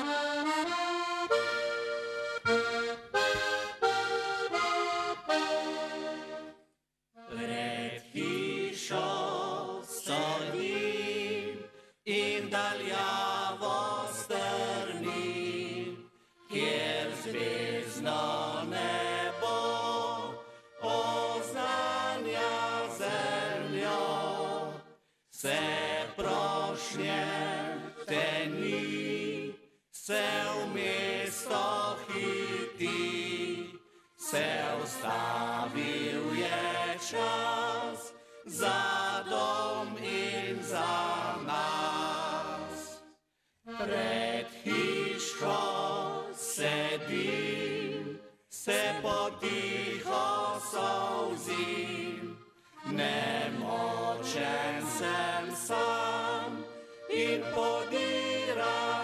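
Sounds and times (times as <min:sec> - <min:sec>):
vocal group singing in harmony: 0:00.0 - 0:06.6, 0:07.2 - 0:59.0.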